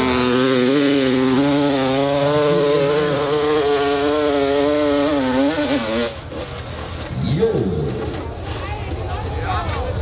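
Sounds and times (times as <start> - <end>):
dirt bike engine at high revs: 0.0 - 8.3.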